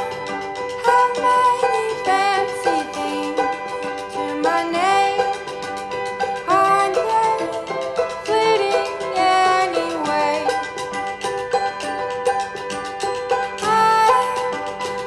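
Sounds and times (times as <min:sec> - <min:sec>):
steady percussion beat: 0:00.0 - 0:15.0
sung melody: 0:00.0 - 0:15.0.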